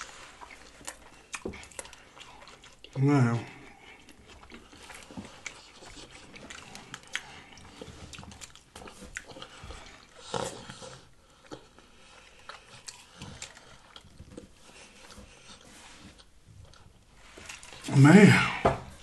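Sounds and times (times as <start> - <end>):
wet chewing and lip smacking: 0.0 - 17.9.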